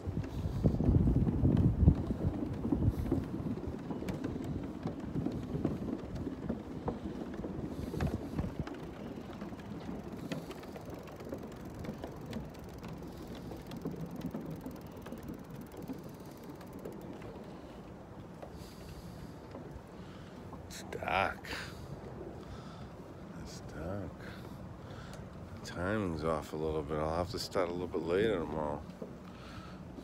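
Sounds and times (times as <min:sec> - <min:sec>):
bicycle tyre noise: 0:00.0 - 0:26.5
bike rattles and clicks: 0:00.0 - 0:30.0.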